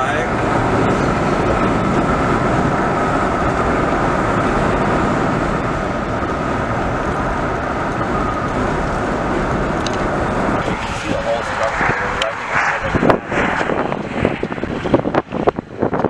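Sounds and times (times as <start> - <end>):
car road noise from inside: 0.0 - 16.0.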